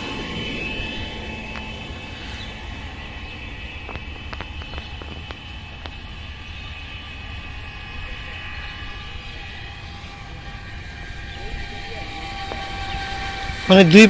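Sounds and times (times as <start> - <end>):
faint high hum: 0.0 - 14.0
low rumble: 0.0 - 14.0.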